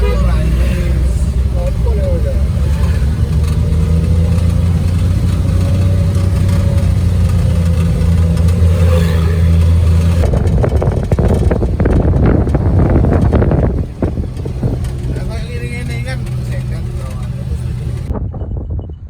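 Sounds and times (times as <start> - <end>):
rough crackling rumbling: 0.0 - 18.2
vehicle engine running: 0.0 - 18.2.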